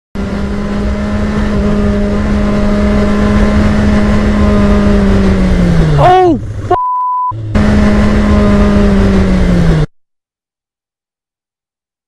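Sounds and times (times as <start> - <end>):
motorcycle engine cruising: 0.2 - 9.9.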